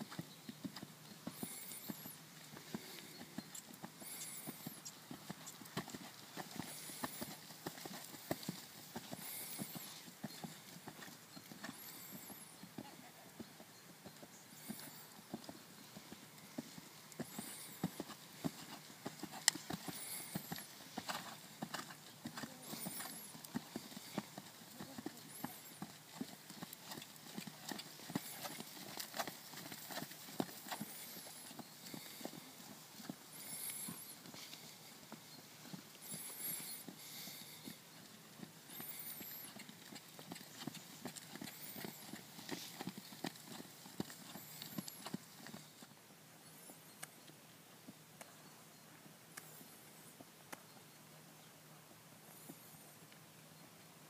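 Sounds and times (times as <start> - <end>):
horse trotting on sand: 0.0 - 46.0.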